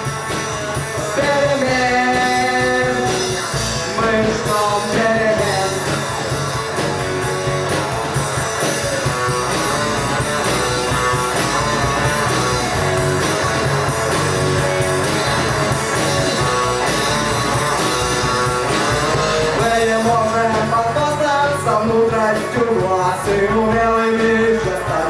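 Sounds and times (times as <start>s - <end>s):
electric guitar playing: 0.0s - 25.0s
steady drum beat: 0.0s - 25.0s.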